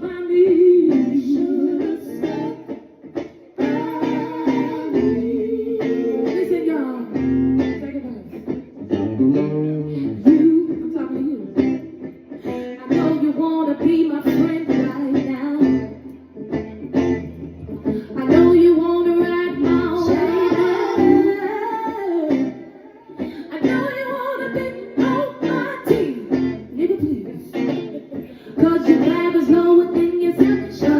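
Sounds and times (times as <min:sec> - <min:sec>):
person singing: 0:00.0 - 0:02.8, 0:03.6 - 0:08.3, 0:09.6 - 0:11.6, 0:12.4 - 0:16.1, 0:17.8 - 0:30.9
guitar accompaniment: 0:00.0 - 0:30.9.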